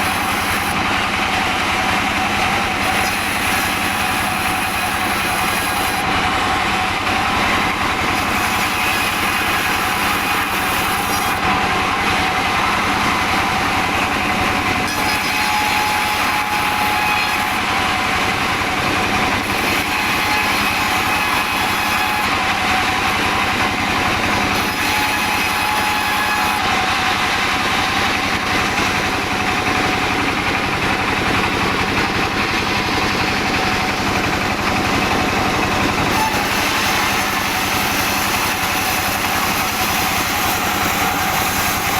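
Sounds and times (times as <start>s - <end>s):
sawmill machine sawing wood: 0.0s - 41.9s.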